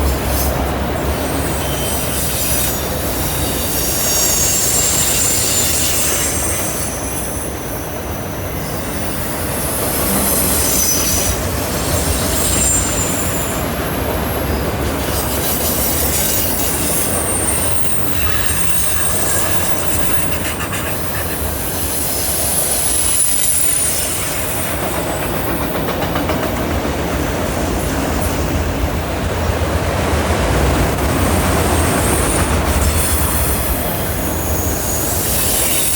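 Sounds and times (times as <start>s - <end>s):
wheels rumbling on rail: 0.0s - 35.9s.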